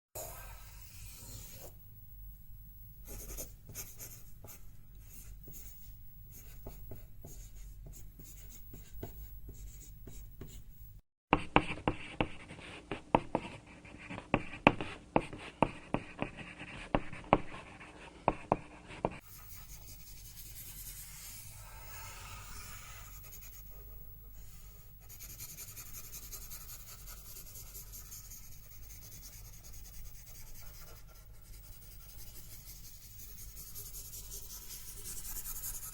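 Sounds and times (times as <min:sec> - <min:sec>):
pencil scratching on paper: 0:00.2 - 0:01.8, 0:03.0 - 0:10.7, 0:11.3 - 0:23.8, 0:24.4 - 0:35.9.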